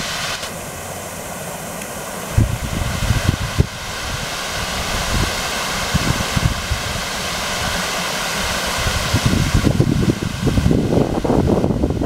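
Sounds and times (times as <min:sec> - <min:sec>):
fountain water splashing: 0:00.0 - 0:12.0
wind rumbling on microphone: 0:02.3 - 0:12.0.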